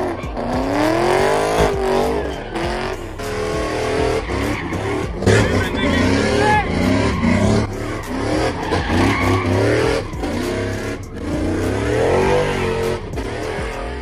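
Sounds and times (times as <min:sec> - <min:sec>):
truck engine revving: 0:00.0 - 0:14.0
tyres skidding on pavement: 0:00.0 - 0:14.0.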